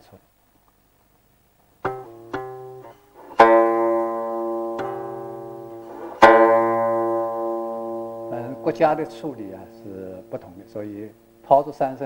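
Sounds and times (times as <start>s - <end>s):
zither plucks and chords: 1.8s - 12.0s.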